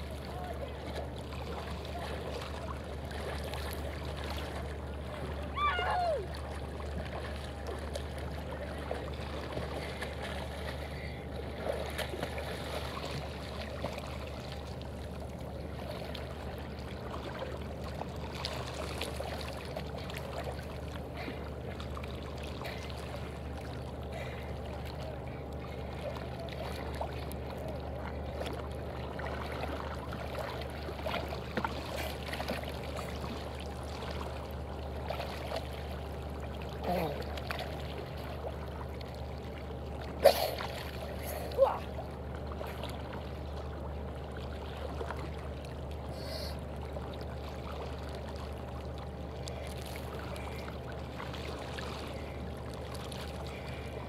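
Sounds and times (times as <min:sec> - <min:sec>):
small waves lapping: 0:00.0 - 0:54.0.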